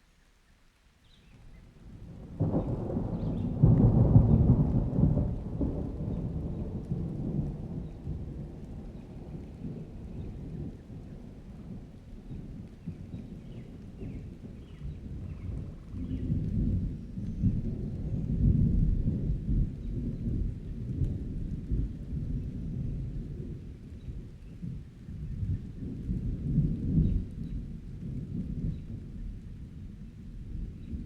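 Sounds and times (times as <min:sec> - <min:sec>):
thunder rumbling: 0:01.8 - 0:31.0.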